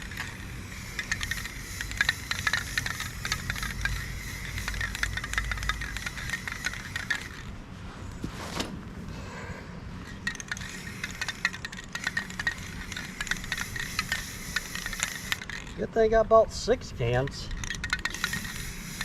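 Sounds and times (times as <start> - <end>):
spray can ball rattling: 0.0 - 7.5, 10.0 - 15.9, 17.0 - 19.0.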